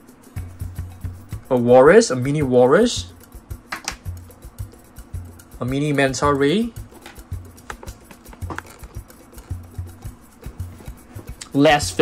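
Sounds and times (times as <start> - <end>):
music with steady low beat: 0.0 - 12.0.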